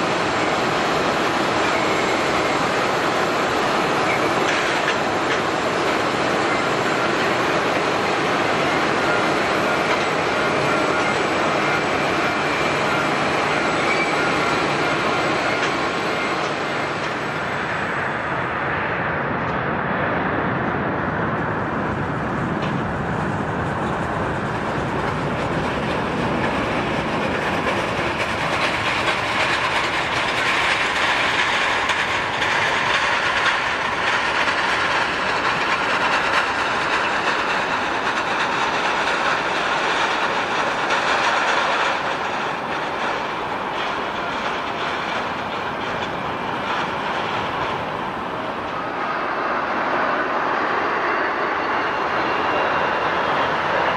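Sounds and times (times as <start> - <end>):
jet engine rushing: 0.0 - 53.9.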